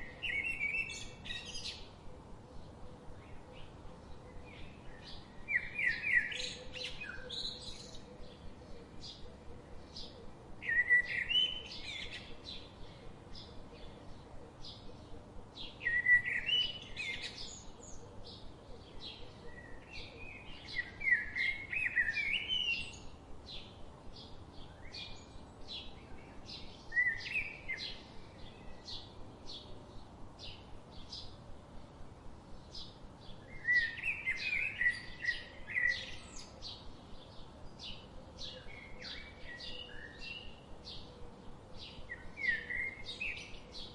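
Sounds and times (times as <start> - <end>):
songbird warbling song: 0.0 - 43.9.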